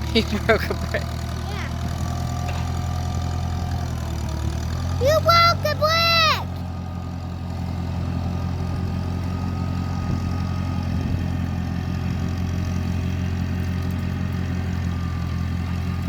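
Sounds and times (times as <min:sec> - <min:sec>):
engine droning steadily: 0:00.0 - 0:16.0.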